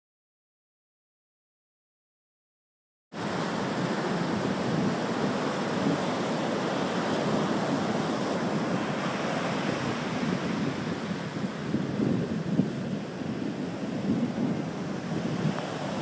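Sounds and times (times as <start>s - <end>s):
surf washing up a beach: 3.2s - 16.0s.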